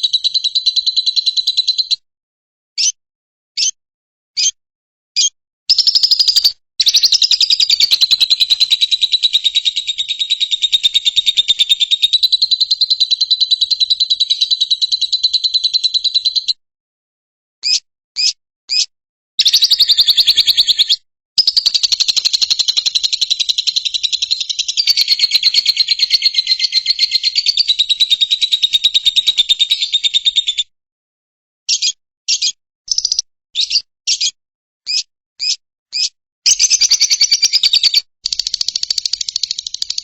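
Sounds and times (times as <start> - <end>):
bird chirping and trilling: 0.0 - 2.0, 2.8 - 3.0, 3.6 - 3.8, 4.4 - 4.6, 5.2 - 16.6, 17.6 - 30.7, 31.7 - 40.0.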